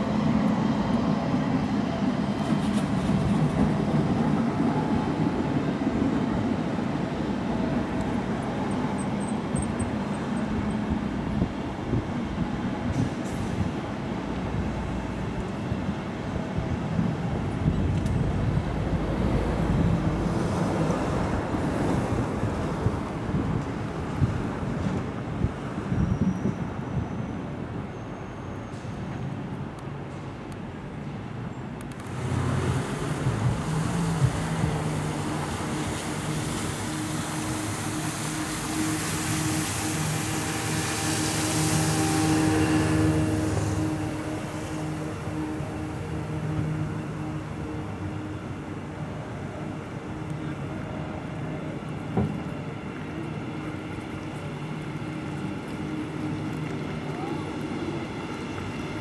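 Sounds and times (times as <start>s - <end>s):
passing traffic rushing: 0.0s - 59.0s.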